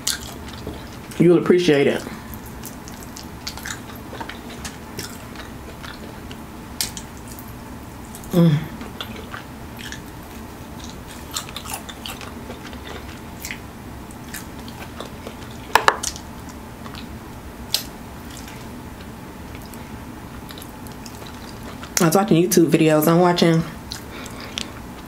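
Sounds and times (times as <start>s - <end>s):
person chewing chicken wing: 0.0s - 1.2s, 2.2s - 7.4s, 8.1s - 22.0s.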